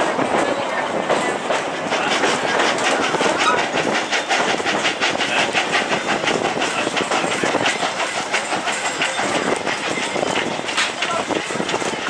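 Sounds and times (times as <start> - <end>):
train rumble: 0.0 - 12.0
train wheels clicking over rails: 0.0 - 12.0.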